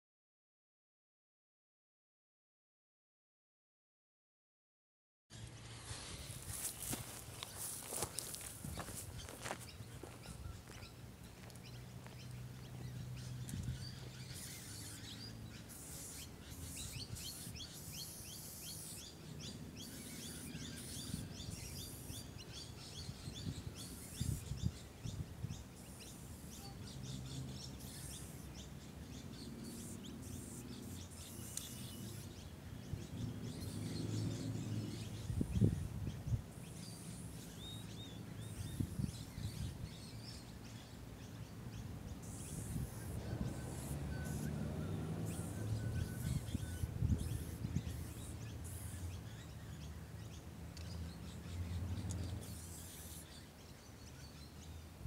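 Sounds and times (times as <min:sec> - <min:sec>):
birds chirping and calling: 0:05.3 - 0:55.0.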